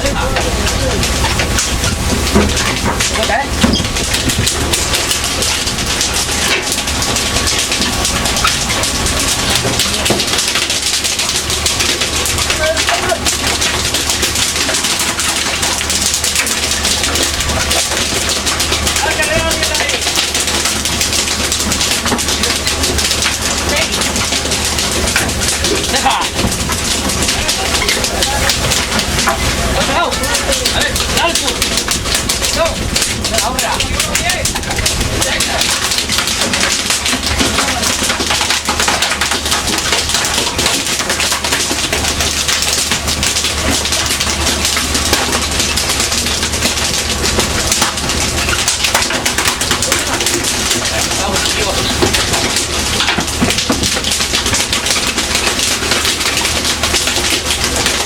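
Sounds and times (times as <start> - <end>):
boat engine hum: 0.0 - 58.0
rapid clattering and splashing: 0.0 - 58.0.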